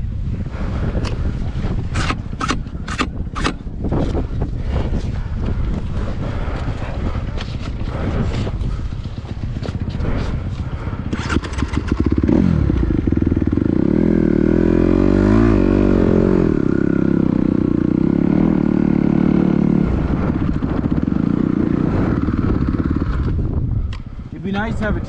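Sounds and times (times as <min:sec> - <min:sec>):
dirt bike engine: 0:00.0 - 0:25.0.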